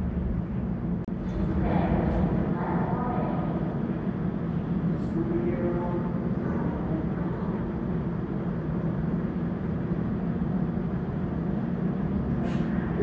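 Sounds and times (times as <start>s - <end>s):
subway station rumble: 0.0s - 13.0s.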